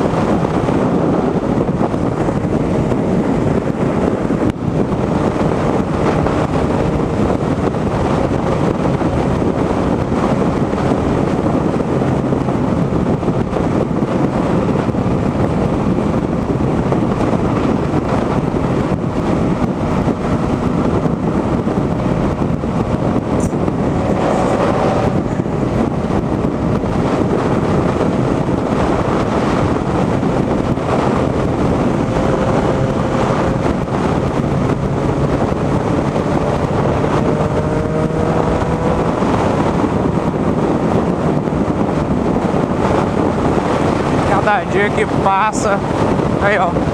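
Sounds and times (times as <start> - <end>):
motorcycle engine drone: 0.0 - 46.9
wind rushing over microphone: 0.0 - 46.9.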